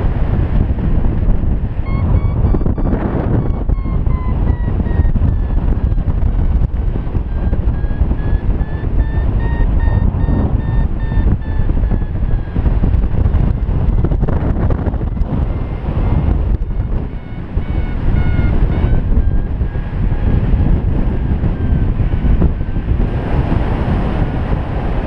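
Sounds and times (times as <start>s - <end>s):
wind buffeting microphone: 0.0s - 25.0s
variometer beeping: 1.6s - 22.7s.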